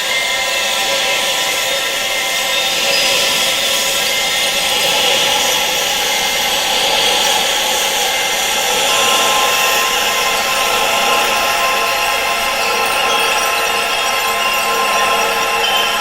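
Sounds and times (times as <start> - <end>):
faint steady tones: 0.0 - 16.0.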